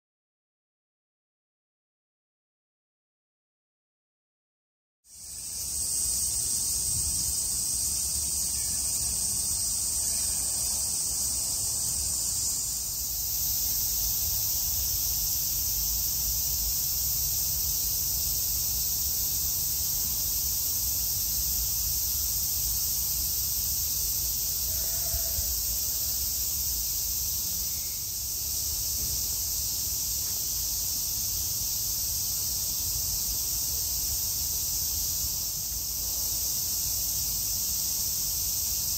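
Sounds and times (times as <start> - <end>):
cicadas chorus: 5.1 - 38.9.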